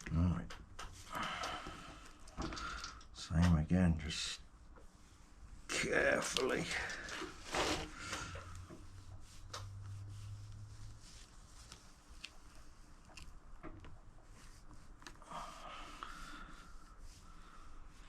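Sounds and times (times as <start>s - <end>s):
light clicks and rustles: 0.0s - 3.7s, 6.1s - 16.9s.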